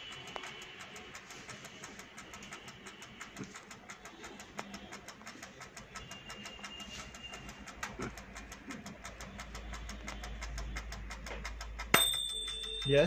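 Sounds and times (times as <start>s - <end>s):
toaster timer ticking: 0.0s - 13.0s.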